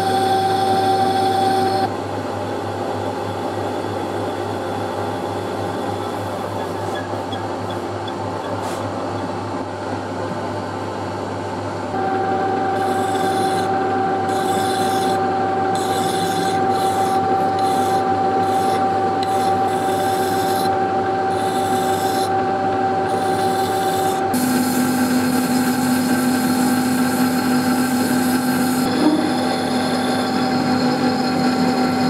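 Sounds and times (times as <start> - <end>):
file stroking spinning steel: 0.0 - 1.9, 5.0 - 9.4, 12.0 - 32.0
metal lathe humming: 0.0 - 2.0, 2.6 - 10.1, 11.9 - 32.0.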